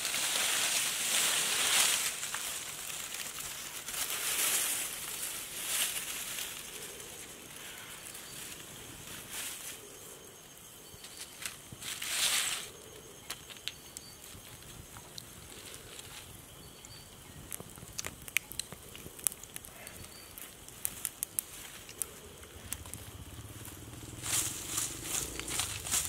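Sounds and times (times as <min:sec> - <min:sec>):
campfire crackling and popping: 0:00.0 - 0:09.2, 0:12.8 - 0:26.0.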